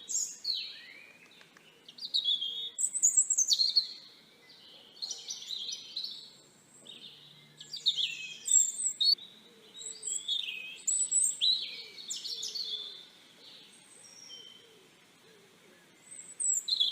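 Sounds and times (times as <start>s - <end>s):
small songbirds chirping: 0.0s - 16.9s.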